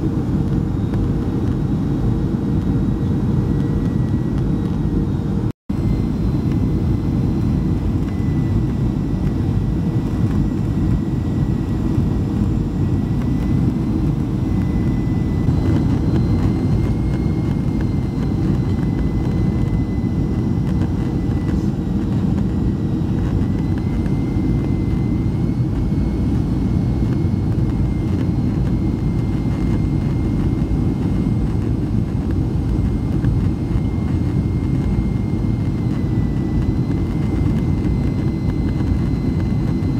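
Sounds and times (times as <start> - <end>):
jet engine rumble in cabin: 0.0 - 39.9
thin engine whine: 0.0 - 39.9.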